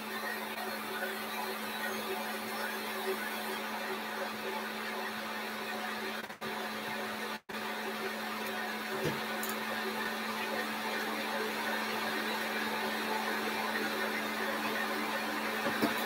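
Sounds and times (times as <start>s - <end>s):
stand mixer motor humming: 0.0s - 16.0s.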